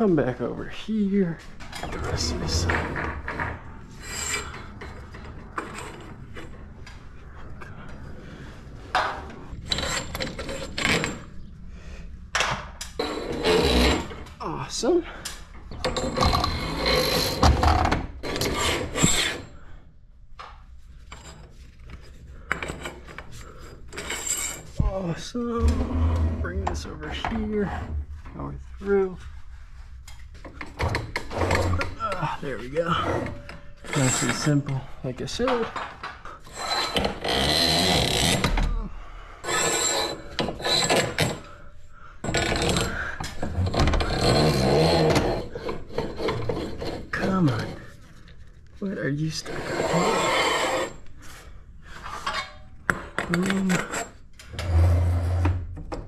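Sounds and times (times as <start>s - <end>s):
metal scraping and rubbing: 1.0s - 11.6s, 12.9s - 14.6s, 15.7s - 19.6s, 21.0s - 38.6s, 39.4s - 41.6s, 42.2s - 55.8s.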